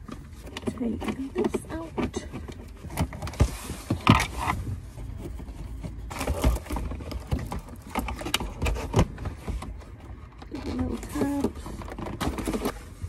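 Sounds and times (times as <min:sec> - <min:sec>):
plastic dashboard parts clicking: 0:00.0 - 0:12.8.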